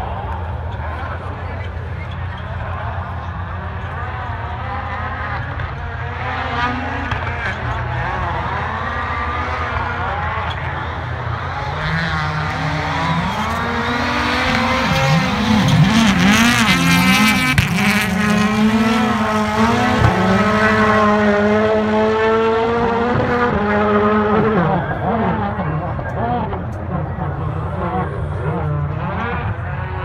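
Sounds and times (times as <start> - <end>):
rally car engines revving: 0.0 - 30.0.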